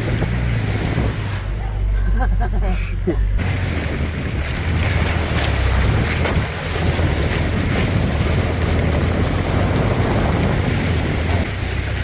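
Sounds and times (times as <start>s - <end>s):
wind buffeting microphone: 0.0s - 2.0s, 3.3s - 12.0s
low engine rumble: 0.0s - 12.0s
mud and water splashing: 0.0s - 12.0s.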